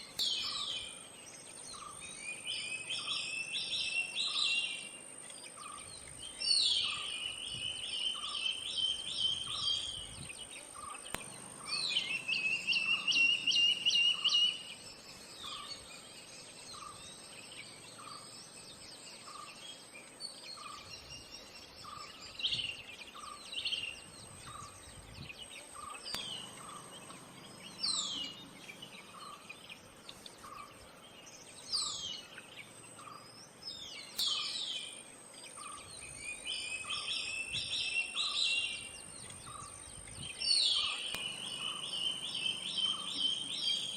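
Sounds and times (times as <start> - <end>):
bird trills and calls: 0.0 - 43.9.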